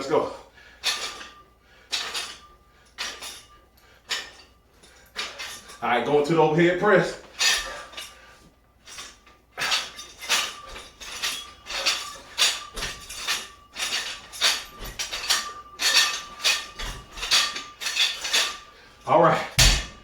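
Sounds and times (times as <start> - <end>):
metal weights clinking: 0.0 - 20.0.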